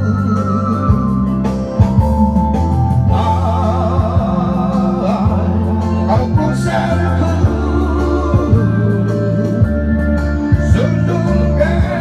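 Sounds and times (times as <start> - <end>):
man singing into a microphone: 0.0 - 1.5, 3.1 - 12.0
backing track with bass line: 0.0 - 12.0.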